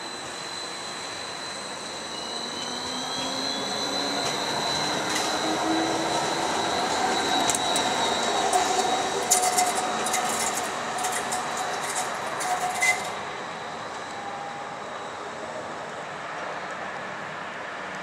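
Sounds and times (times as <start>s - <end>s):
street noise: 0.0s - 18.0s
tram electric whine: 0.0s - 18.0s
tram rolling noise: 0.0s - 18.0s.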